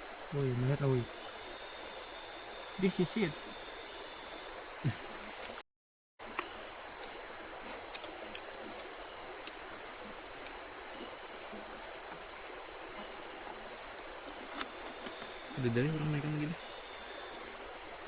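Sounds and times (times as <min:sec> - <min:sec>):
high-pitched insect drone: 0:00.0 - 0:05.6, 0:06.5 - 0:18.0.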